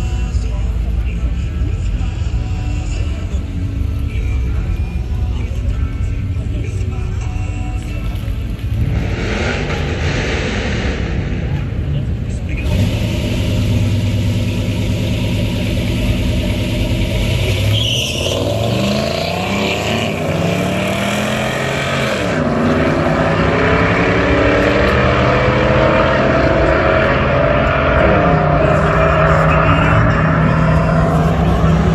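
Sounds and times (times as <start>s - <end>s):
truck engine accelerating: 0.0s - 31.9s.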